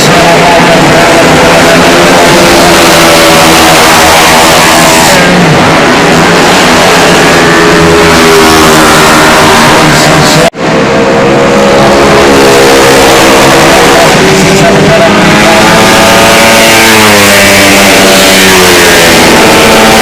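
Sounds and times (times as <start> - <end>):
scooter engine at high revs: 0.0 - 20.0.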